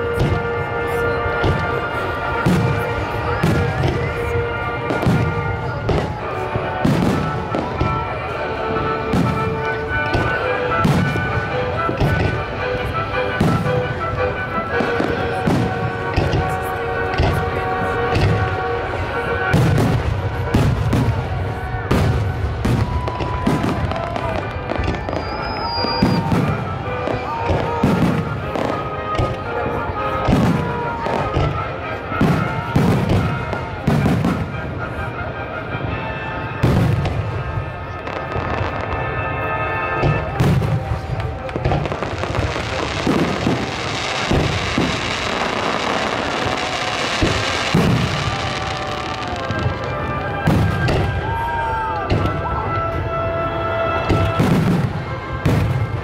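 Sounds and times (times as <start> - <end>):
fireworks booming: 0.0 - 56.0
music playing: 0.0 - 56.0.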